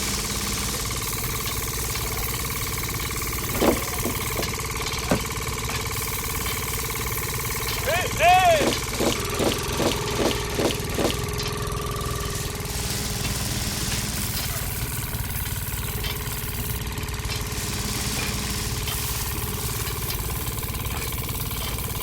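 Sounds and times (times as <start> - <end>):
small motor chugging: 0.0 - 22.0.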